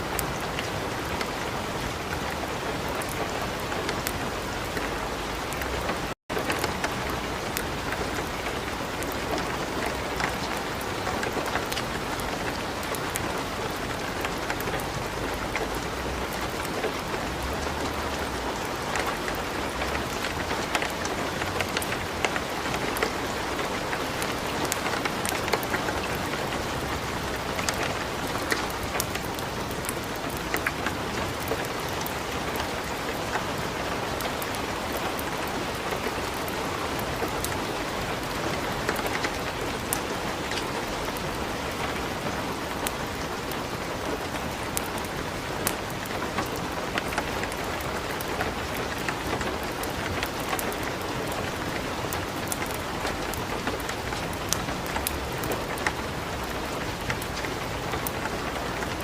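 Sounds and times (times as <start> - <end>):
light rain pattering: 0.0 - 59.0
wood fire crackling: 2.2 - 33.5, 34.2 - 59.0.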